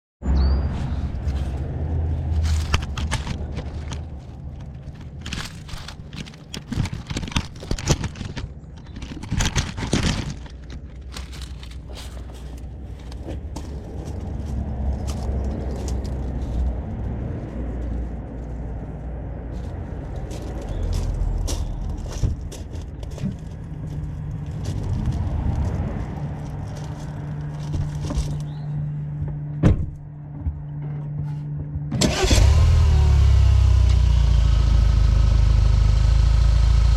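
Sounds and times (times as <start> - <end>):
car engine hum: 0.9 - 36.9.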